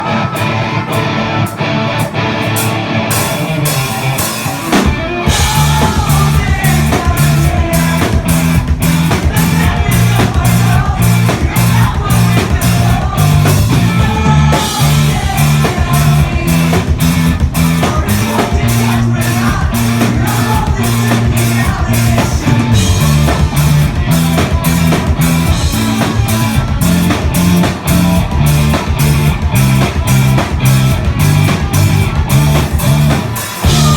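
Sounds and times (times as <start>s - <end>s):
rock band playing: 0.0s - 33.9s.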